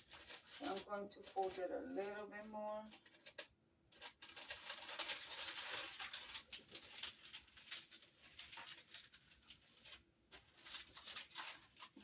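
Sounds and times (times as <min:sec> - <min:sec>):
parchment paper crinkling: 0:00.0 - 0:12.0.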